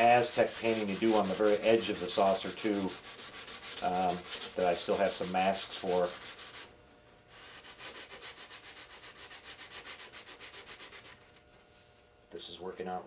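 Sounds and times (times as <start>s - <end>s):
sandpaper rubbing on plastic: 0.0s - 6.7s, 7.3s - 11.4s.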